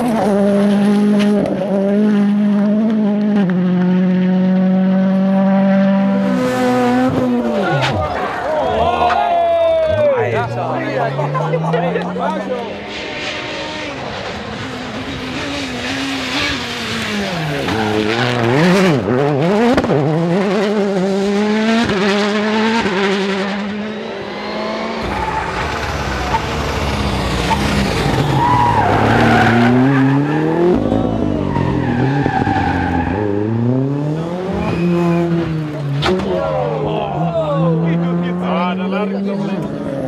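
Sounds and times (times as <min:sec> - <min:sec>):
rally car engine revving: 0:00.0 - 0:08.7, 0:09.7 - 0:40.0
second rally car accelerating: 0:00.0 - 0:40.0.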